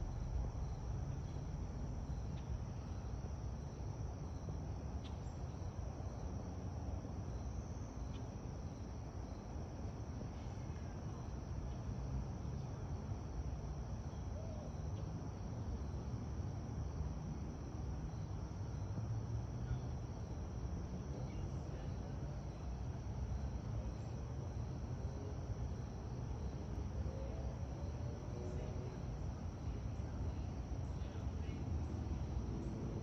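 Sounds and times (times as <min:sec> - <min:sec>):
crickets chirping: 0:00.0 - 0:33.0
low outdoor rumble: 0:00.0 - 0:33.0.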